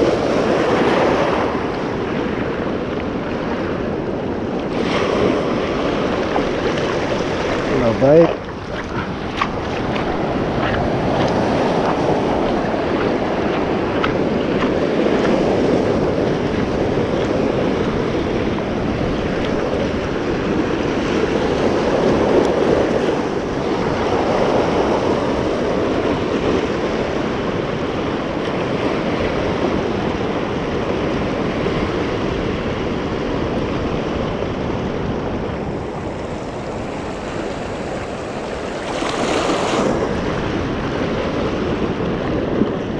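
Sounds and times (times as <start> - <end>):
surf washing over reef: 0.0 - 42.9
wind buffeting microphone: 0.0 - 42.9.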